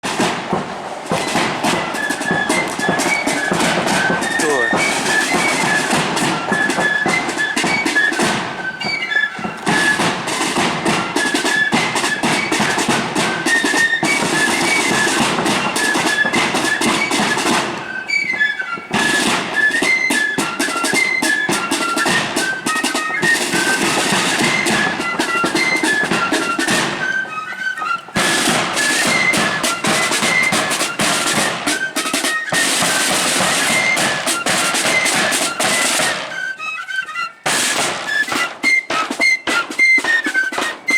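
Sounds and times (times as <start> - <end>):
flutes playing melody: 0.0 - 40.9
marching band drums: 0.0 - 40.9.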